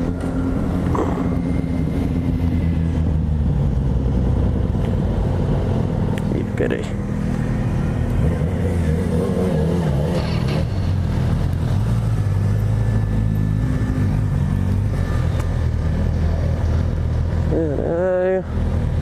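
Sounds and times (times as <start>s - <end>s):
motorcycle engines idling: 0.0s - 3.7s, 5.8s - 19.0s.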